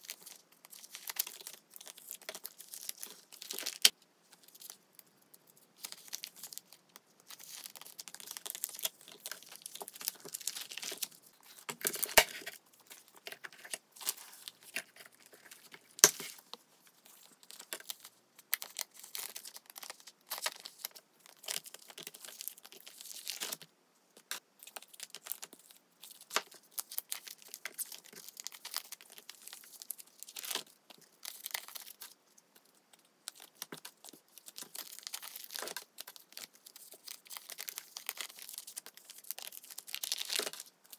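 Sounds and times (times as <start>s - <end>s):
plastic pages crinkling: 0.0s - 23.6s, 24.2s - 40.9s.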